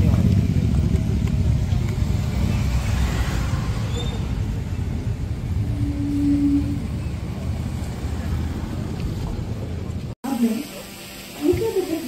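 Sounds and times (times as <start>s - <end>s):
van engine and tyres rumbling: 0.0s - 10.2s.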